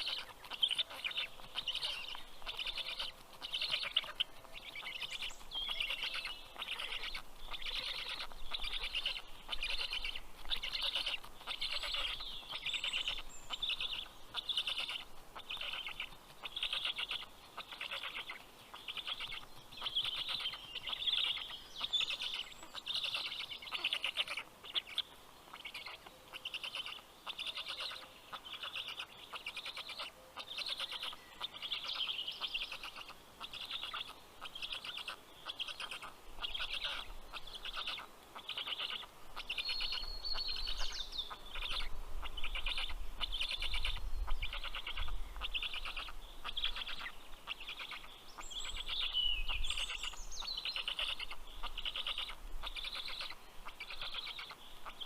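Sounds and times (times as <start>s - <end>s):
stork chicks rasping calls: 0.0s - 55.0s.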